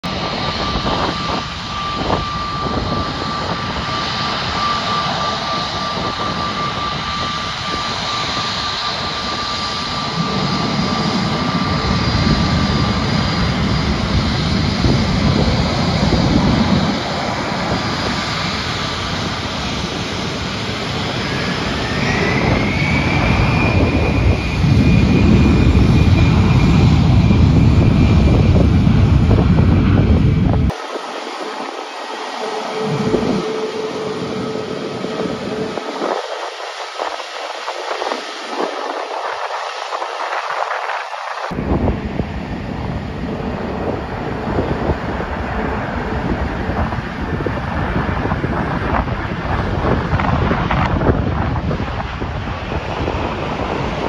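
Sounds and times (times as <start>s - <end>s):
jet engines spooling up with rumble: 0.0s - 54.0s
jet engines whining: 0.0s - 54.0s.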